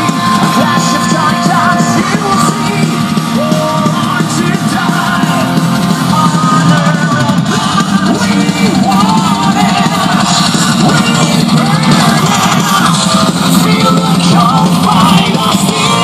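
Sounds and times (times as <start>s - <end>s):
rock music with vocals: 0.0s - 16.0s.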